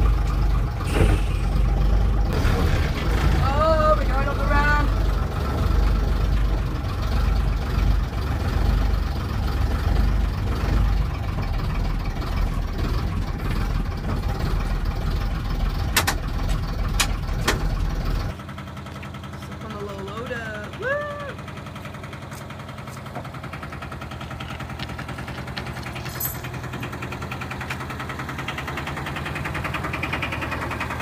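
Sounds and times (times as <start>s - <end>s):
lorry engine running: 0.0s - 31.0s.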